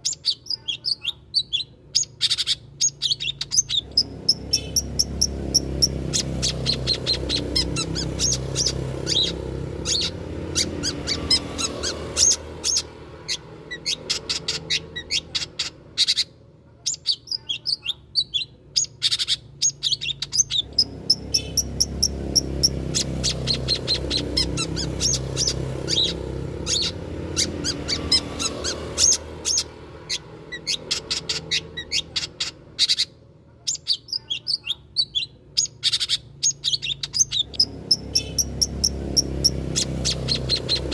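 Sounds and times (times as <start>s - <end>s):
bird song with sharp high chirps: 0.0s - 40.9s.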